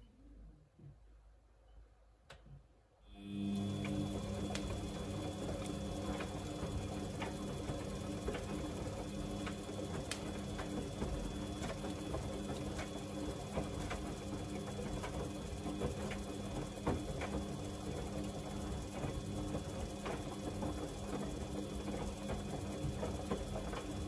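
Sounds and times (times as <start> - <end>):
washing machine motor hum: 3.1 - 24.0.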